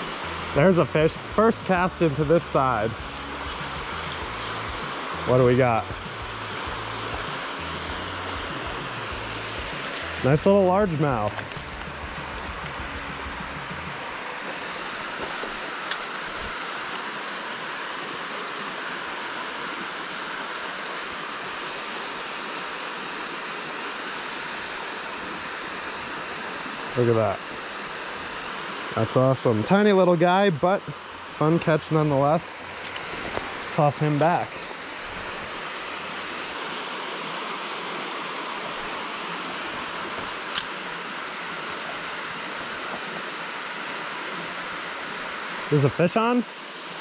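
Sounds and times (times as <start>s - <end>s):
water rushing through spillway: 0.0s - 47.0s.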